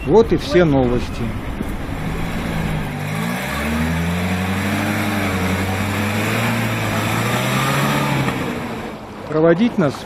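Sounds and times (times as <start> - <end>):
truck engine driving through mud: 0.6 - 9.9.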